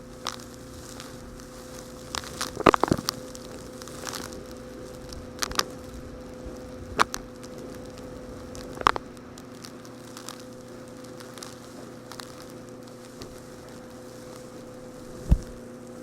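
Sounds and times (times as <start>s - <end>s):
small rocks crunching: 0.0s - 16.0s
steady low hum: 0.0s - 16.0s.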